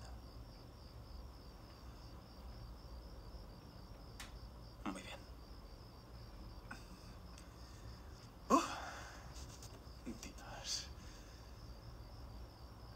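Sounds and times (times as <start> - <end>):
crickets chirping: 0.0 - 12.9.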